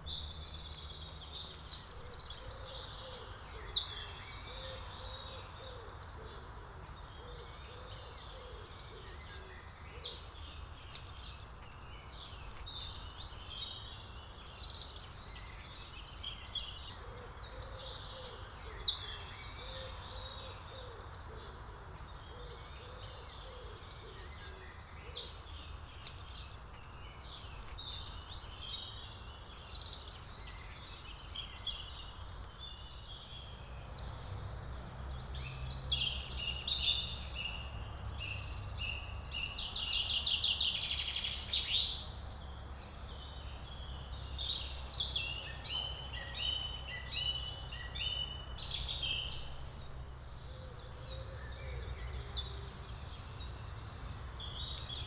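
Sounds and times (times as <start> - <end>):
songbirds trilling: 0.0 - 55.0.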